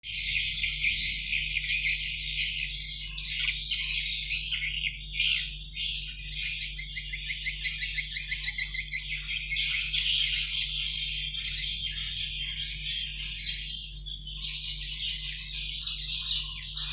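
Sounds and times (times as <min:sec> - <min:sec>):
bird chicks chirping: 0:00.0 - 0:16.9
faint steady hum: 0:00.1 - 0:16.9.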